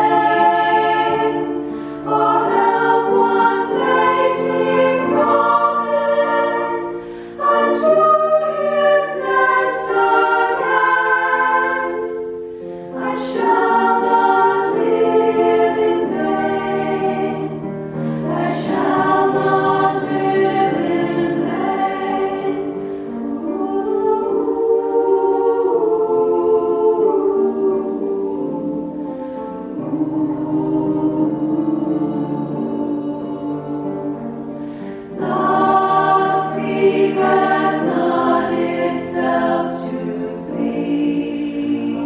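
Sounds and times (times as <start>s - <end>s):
choir singing: 0.0s - 42.0s.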